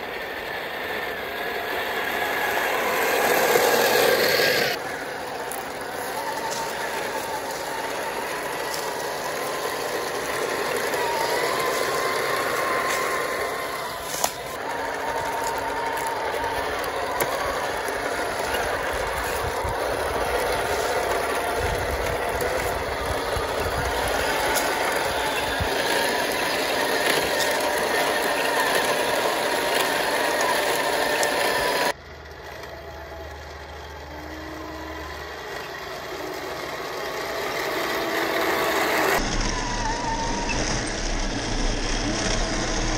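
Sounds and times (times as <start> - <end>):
simulated diesel engine sound: 0.0 - 42.9
toy tank gear motors and tracks: 0.0 - 42.9.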